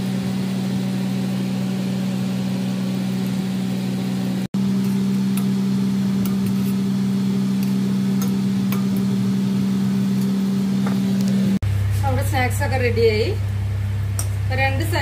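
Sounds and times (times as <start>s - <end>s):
frying oil sizzling and popping: 0.0s - 11.6s, 13.4s - 15.0s
electric motor hum: 0.0s - 15.0s.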